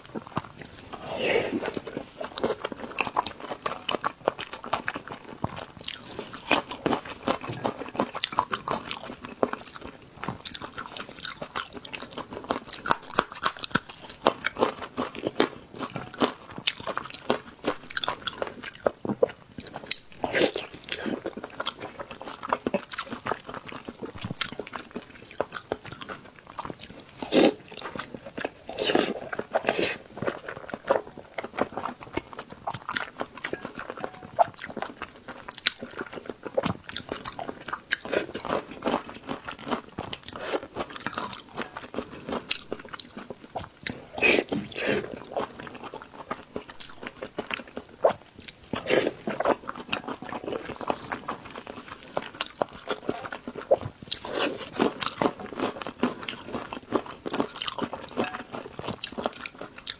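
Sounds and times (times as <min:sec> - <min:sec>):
person chewing and biting: 0:00.0 - 0:59.9.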